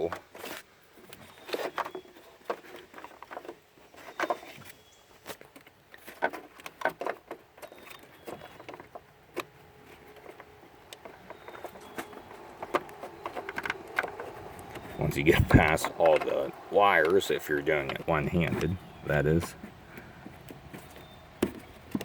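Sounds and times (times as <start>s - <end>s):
hands clicking and tapping parts: 0.0s - 22.0s.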